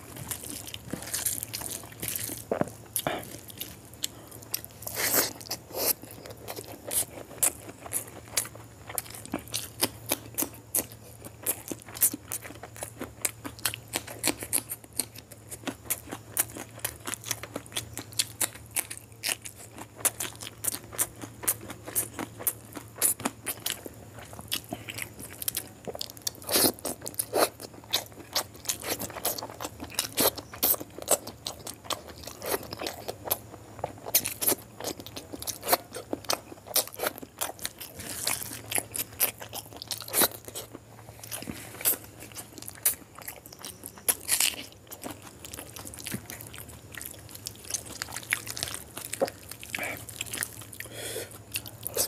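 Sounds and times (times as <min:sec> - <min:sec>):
chewing and crunching food: 0:00.0 - 0:52.0
steady low hum: 0:00.0 - 0:52.0.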